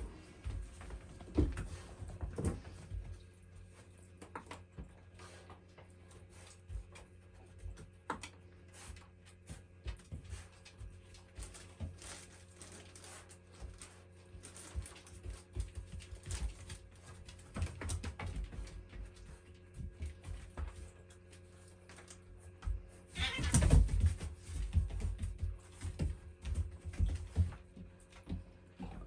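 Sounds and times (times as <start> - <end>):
paws clicking on floor mats: 0.0 - 29.0
steady low hum: 0.0 - 29.0.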